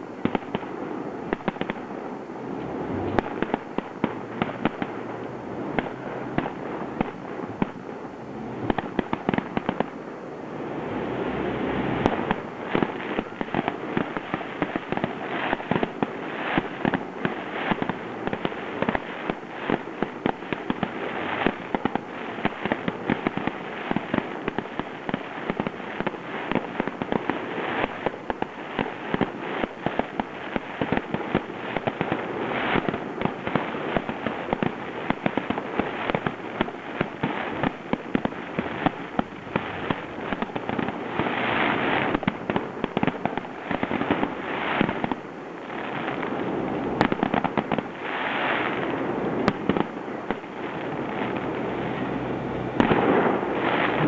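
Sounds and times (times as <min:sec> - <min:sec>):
fireworks crackling bursts: 0:00.0 - 0:54.0
fireworks hissing: 0:00.0 - 0:54.0.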